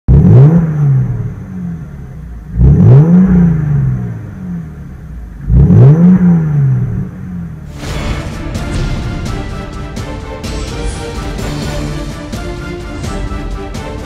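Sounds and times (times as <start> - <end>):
car engine revving: 0.1 - 14.0.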